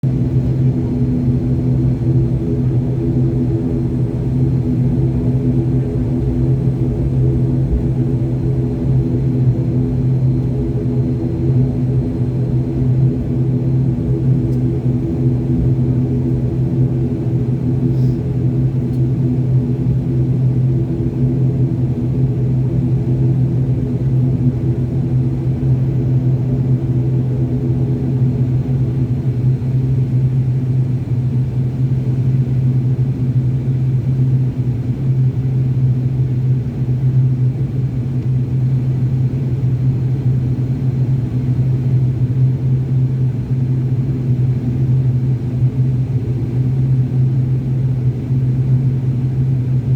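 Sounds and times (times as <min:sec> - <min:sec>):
airplane engines droning: 0:00.0 - 0:49.9.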